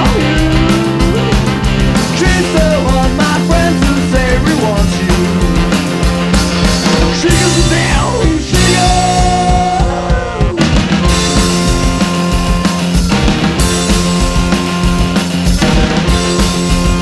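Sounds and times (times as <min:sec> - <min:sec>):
rock song played by band: 0:00.0 - 0:17.0
steady drum beat: 0:00.0 - 0:17.0.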